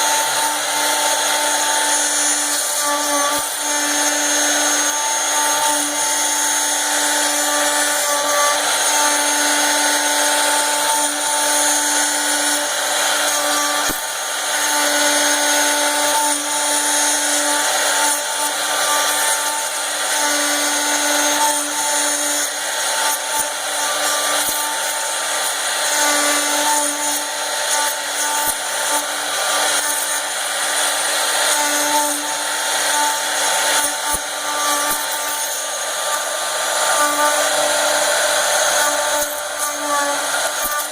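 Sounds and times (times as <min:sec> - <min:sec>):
router spindle whine and hiss: 0:00.0 - 0:40.9.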